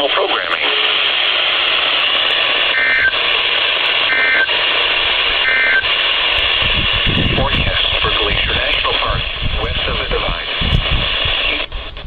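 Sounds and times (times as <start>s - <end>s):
digital data tone bursts: 0.0s - 11.7s
radio static hiss: 0.0s - 12.0s.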